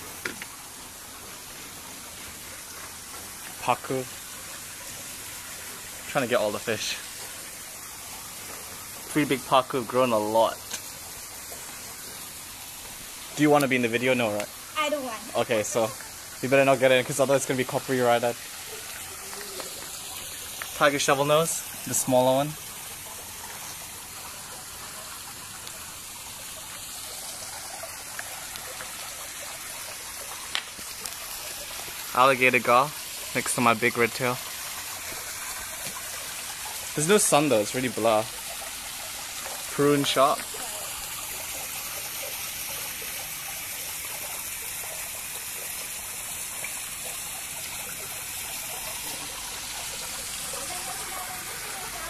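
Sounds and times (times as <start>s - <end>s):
water trickling into pond: 0.0s - 52.0s.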